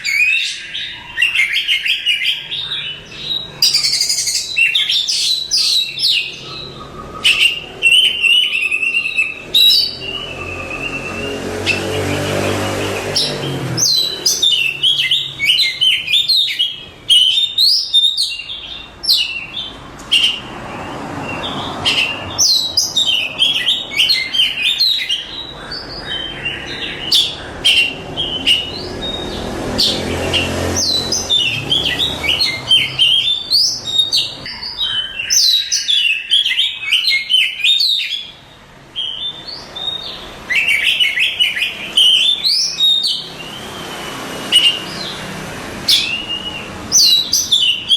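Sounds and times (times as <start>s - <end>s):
bird singing whistled phrases: 0.0s - 12.0s, 13.1s - 20.4s, 26.2s - 38.4s, 39.0s - 45.1s, 45.9s - 47.9s.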